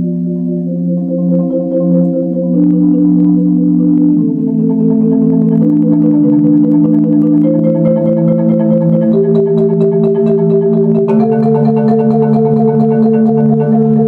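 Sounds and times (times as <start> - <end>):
marimba rolled chords: 0.0 - 14.0.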